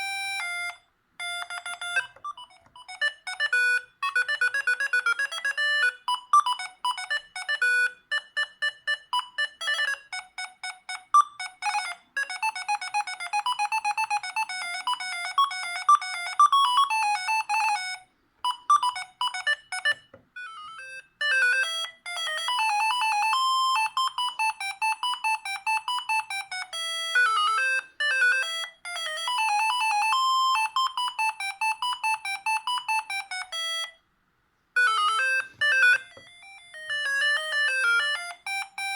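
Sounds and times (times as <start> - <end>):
mobile phone ringtone melodies: 0.0 - 34.0, 34.8 - 38.9.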